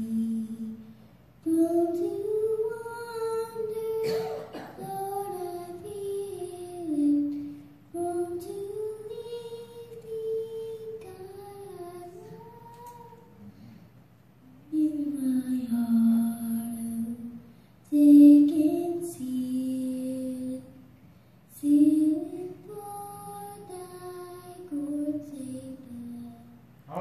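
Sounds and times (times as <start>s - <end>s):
girl singing into a microphone: 0.0s - 13.4s, 14.6s - 20.8s, 21.5s - 26.7s.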